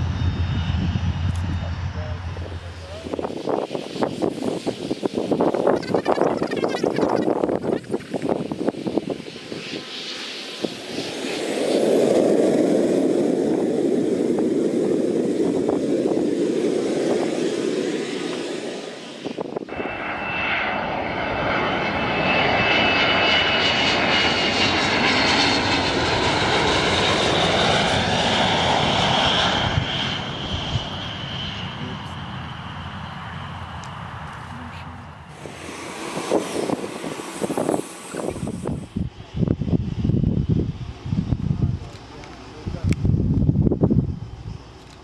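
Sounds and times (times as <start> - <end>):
high turbine whine over rumble: 0.0 - 45.0
jet engine noise: 0.0 - 45.0.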